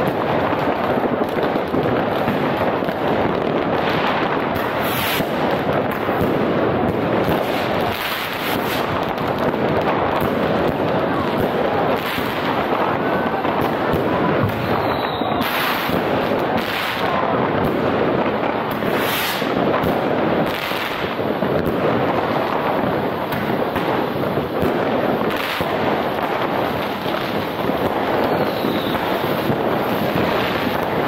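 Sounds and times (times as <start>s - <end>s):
firework bangs: 0.0s - 31.0s
fireworks crackling: 0.0s - 31.0s.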